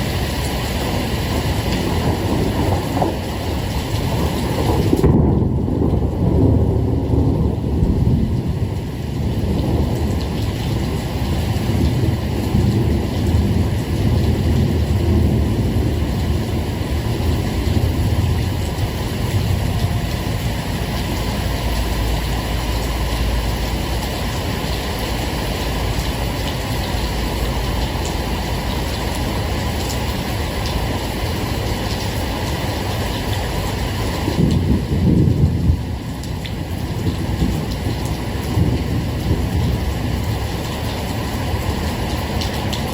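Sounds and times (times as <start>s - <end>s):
steady rain: 0.0s - 42.9s
distant thunder rumble: 1.6s - 31.2s, 33.6s - 41.1s.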